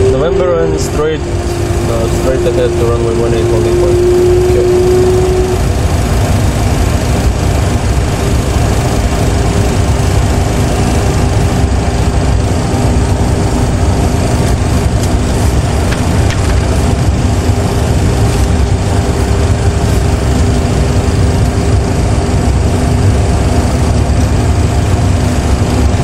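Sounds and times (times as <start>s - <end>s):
faint steady hum: 0.0s - 26.0s
ground rumble: 0.0s - 26.0s
jet engines rumbling: 0.0s - 26.0s.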